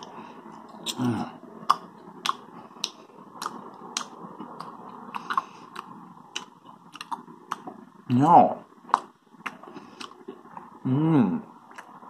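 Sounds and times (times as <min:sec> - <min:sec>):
person chewing with wet smacks: 0:00.0 - 0:07.8, 0:08.8 - 0:10.7, 0:11.7 - 0:12.0.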